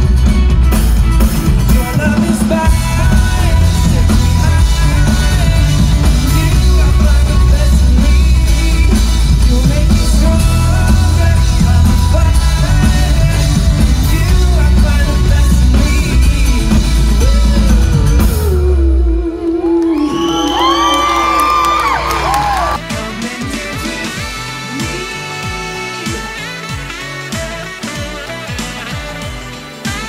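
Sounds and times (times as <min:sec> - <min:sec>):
live pop-rock band: 0:00.0 - 0:30.0
person singing: 0:01.4 - 0:30.0.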